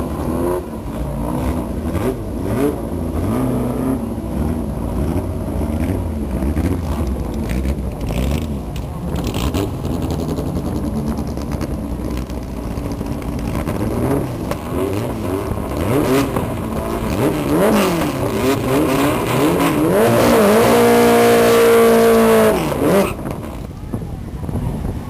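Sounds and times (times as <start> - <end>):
car engines idling and revving: 0.0 - 25.0.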